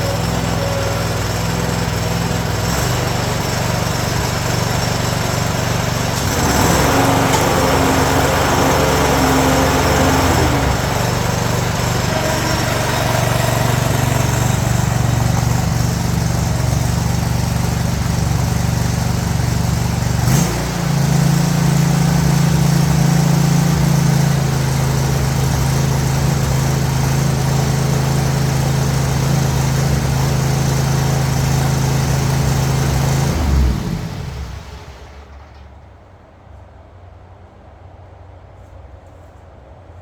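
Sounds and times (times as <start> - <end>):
mower engine running: 0.0 - 35.6.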